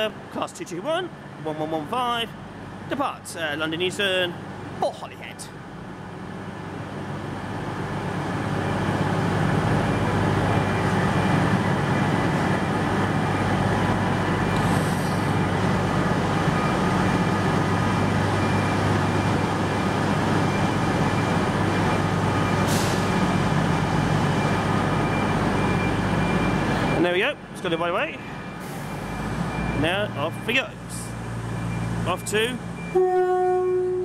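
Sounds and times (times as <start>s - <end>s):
train diesel engines droning: 0.0s - 34.0s.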